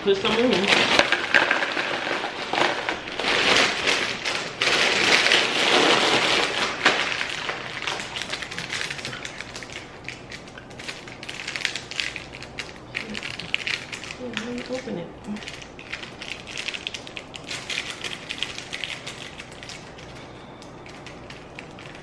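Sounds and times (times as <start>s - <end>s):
chips crackling in plastic bag: 0.0s - 22.0s.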